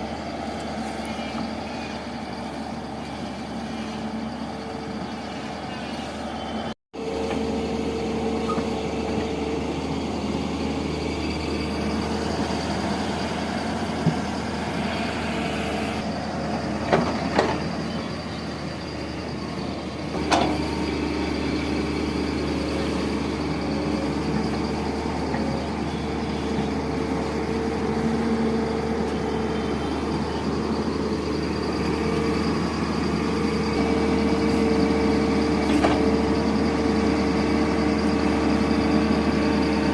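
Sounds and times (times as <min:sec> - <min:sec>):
excavator diesel engine running: 0:00.0 - 0:39.9
hydraulic whine: 0:00.0 - 0:39.9.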